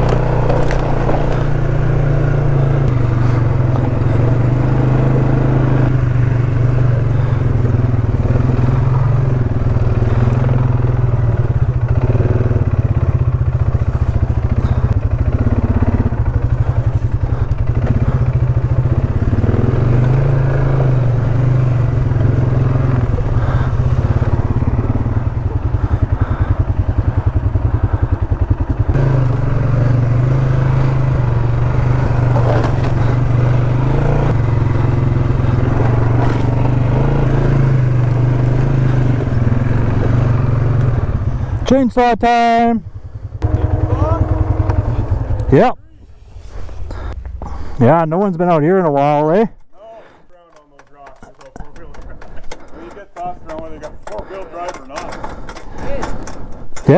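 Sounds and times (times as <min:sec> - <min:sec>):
rattling: 0:00.0 - 0:41.6, 0:49.4 - 0:56.9
quad engine running: 0:00.0 - 0:56.9.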